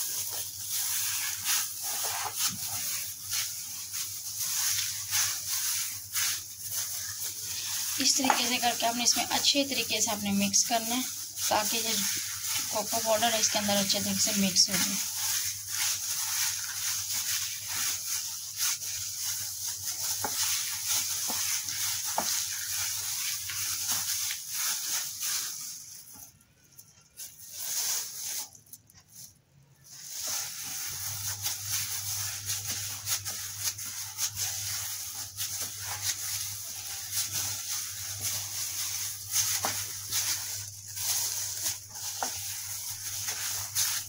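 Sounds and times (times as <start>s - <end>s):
dough squishing: 0.0s - 44.0s
plastic glove crinkling: 0.0s - 44.0s.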